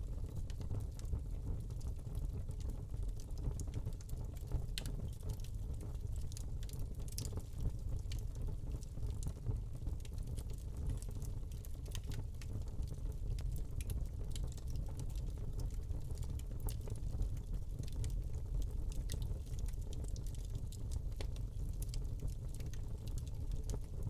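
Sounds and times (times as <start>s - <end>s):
low rumble of flames: 0.0s - 24.0s
fire crackling and popping: 0.1s - 24.0s.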